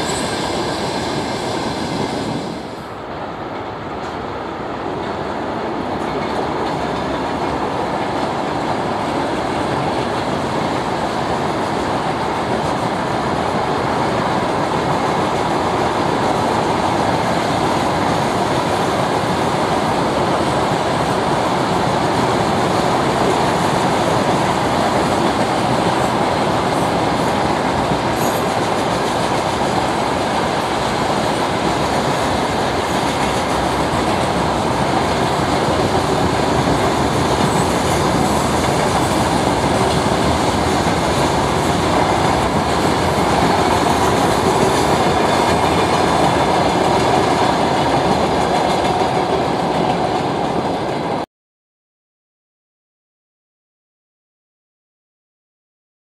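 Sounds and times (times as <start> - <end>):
freight train wheels on rails: 0.0 - 51.2.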